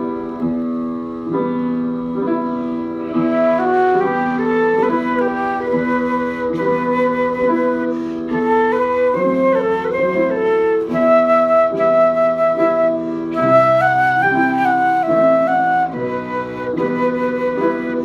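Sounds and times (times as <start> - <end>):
wind ensemble music: 1.7 - 18.0.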